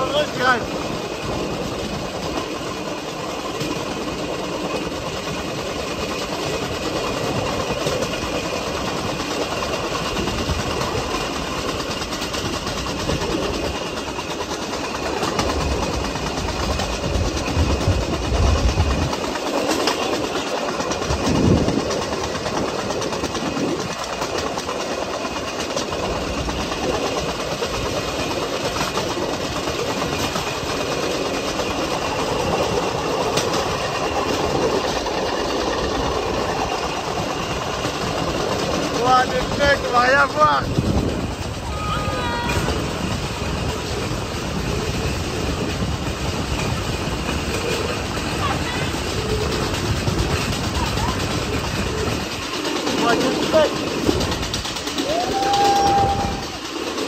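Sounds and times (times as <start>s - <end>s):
steel wheels rolling on rails: 0.0s - 57.0s.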